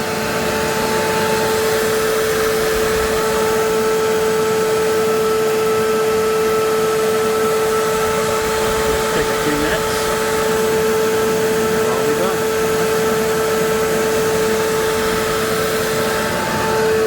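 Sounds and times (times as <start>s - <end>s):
shop vac whining: 0.0s - 17.0s.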